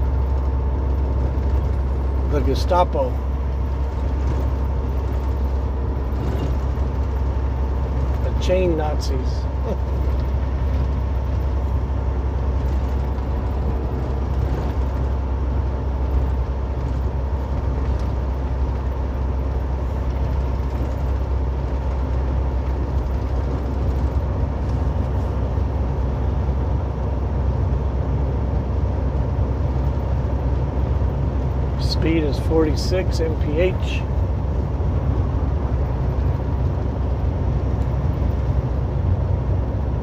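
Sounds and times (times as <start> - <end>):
road and tyre noise: 0.0 - 40.0.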